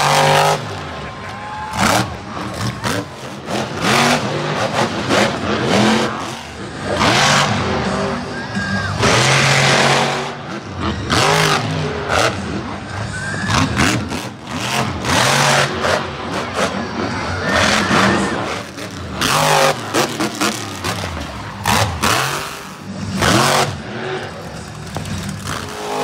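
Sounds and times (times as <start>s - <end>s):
truck engine revving hard: 0.0s - 26.0s.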